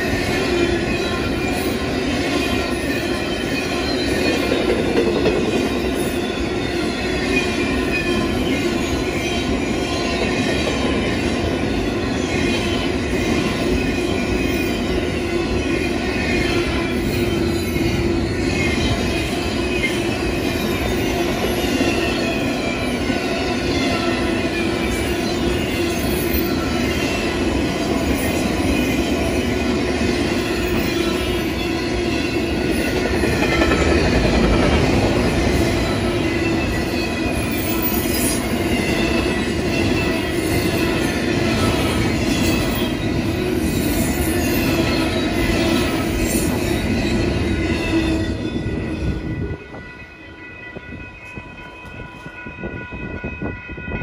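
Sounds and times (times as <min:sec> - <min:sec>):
crossing warning bell ringing: 0:00.0 - 0:54.0
train wheels on rails: 0:00.0 - 0:54.0.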